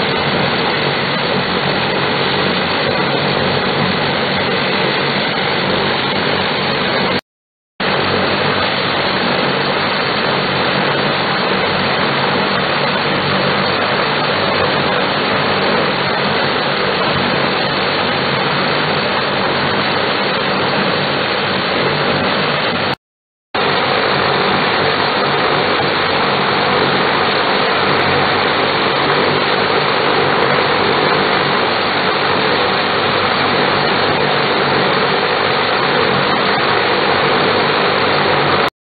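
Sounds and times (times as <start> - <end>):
turboprop engines running: 0.0 - 7.2, 7.8 - 22.9, 23.6 - 38.7.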